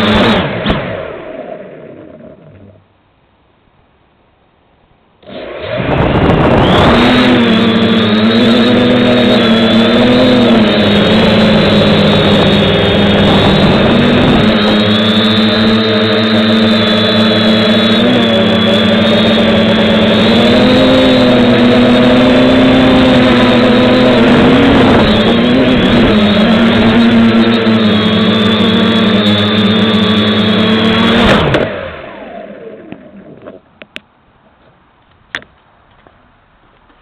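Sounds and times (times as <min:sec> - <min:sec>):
drone motors and propellers whining: 0:00.0 - 0:02.9, 0:05.2 - 0:34.0.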